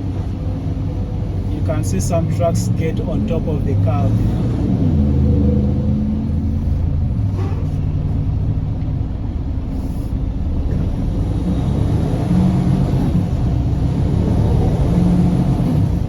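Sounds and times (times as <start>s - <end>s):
road noise: 0.0s - 16.0s
truck diesel engine rumble: 0.0s - 16.0s.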